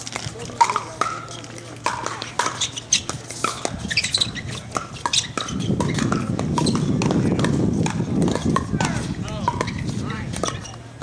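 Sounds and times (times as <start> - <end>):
paddles hitting plastic ball: 0.0 - 10.8
shoes squeaking on court: 0.0 - 11.0.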